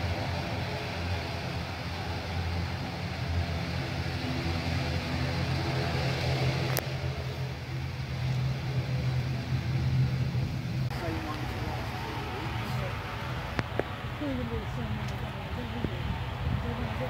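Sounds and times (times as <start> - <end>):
low engine hum with hiss: 0.0 - 17.0.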